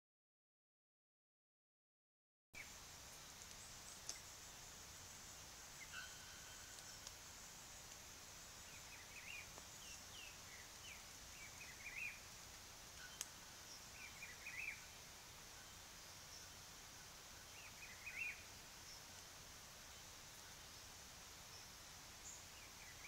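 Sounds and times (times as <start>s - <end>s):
small birds chirping: 2.6s - 23.0s
steady high hiss: 2.6s - 23.0s.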